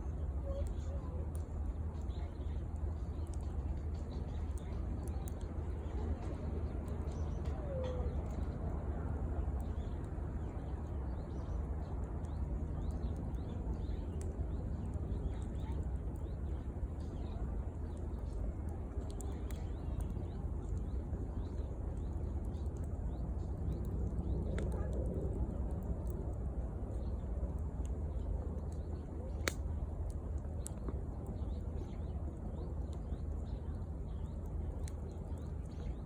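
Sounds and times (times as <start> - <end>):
small birds chirping: 0.0 - 36.0
fire crackling and popping: 0.1 - 36.0.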